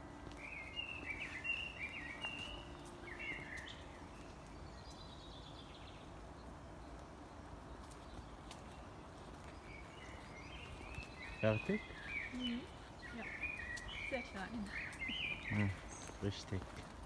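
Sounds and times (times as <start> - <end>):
low steady background noise: 0.0 - 17.0
songbirds singing: 0.0 - 17.0.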